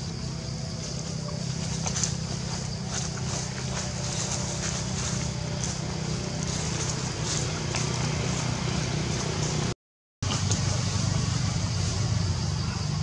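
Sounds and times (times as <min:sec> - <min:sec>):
low outdoor rumble with hiss: 0:00.0 - 0:13.0.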